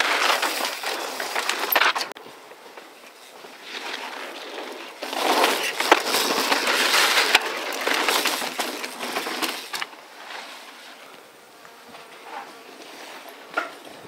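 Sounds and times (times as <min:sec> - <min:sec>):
bike tyres crunching over gravel: 0:00.0 - 0:14.0.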